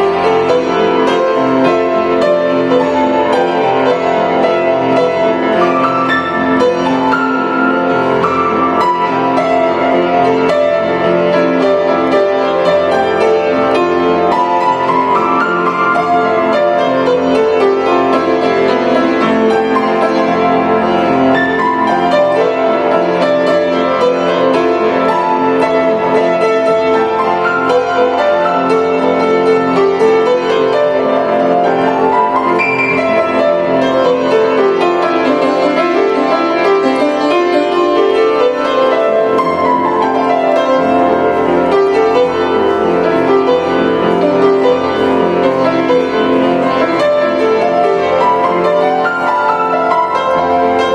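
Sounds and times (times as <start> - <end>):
grand piano piece: 0.0 - 50.9.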